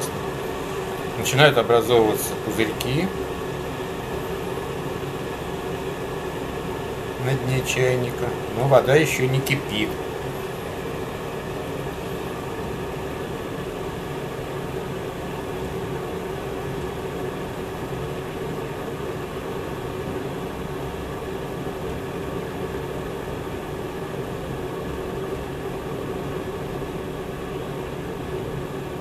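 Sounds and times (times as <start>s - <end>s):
electric kettle heating water: 0.0s - 29.0s.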